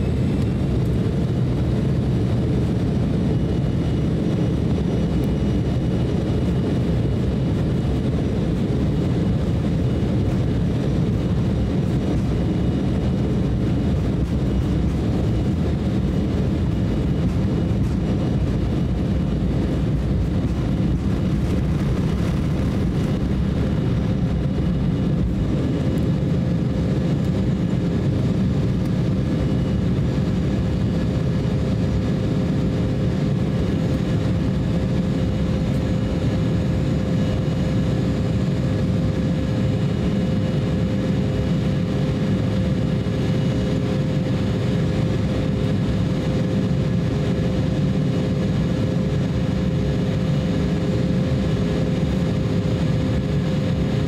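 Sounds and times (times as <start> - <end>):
jet engines roaring in cabin: 0.0 - 54.0.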